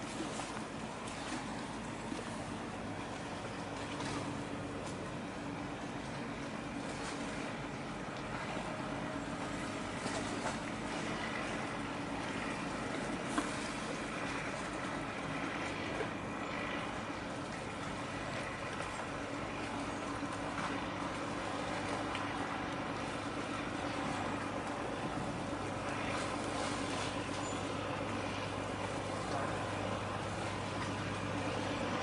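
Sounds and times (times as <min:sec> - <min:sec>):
waterfront noise: 0:00.0 - 0:32.0.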